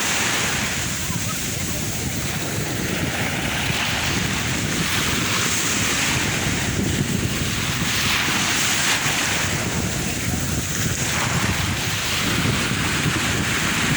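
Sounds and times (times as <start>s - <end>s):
sea waves washing on shore: 0.0s - 13.9s
wind rumbling on microphone: 0.0s - 13.9s.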